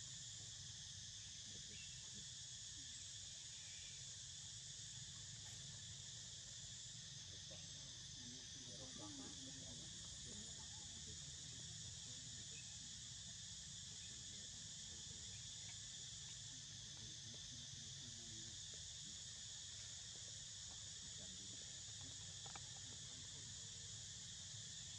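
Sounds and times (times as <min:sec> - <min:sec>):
crickets shrilling: 0:00.0 - 0:24.9.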